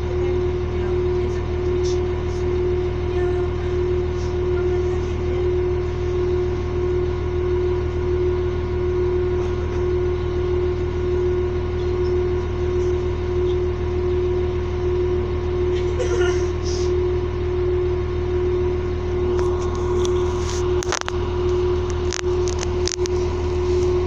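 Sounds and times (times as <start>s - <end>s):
standing train humming: 0.0s - 24.0s.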